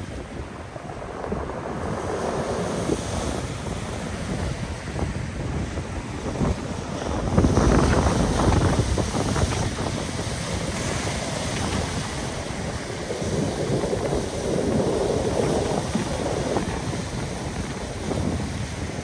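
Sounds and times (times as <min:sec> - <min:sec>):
surf crashing on pebble beach: 0:00.0 - 0:19.0
wind buffeting microphone: 0:00.0 - 0:19.0.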